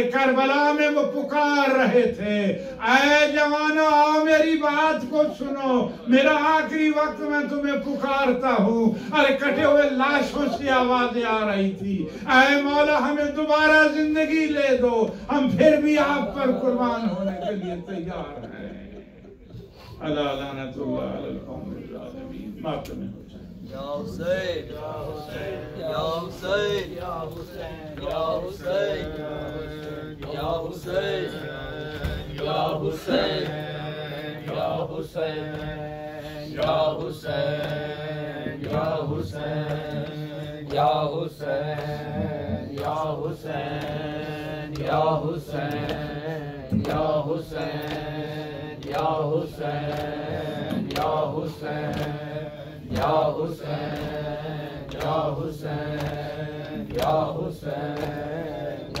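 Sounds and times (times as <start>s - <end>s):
congregation chanting: 0.0s - 59.0s.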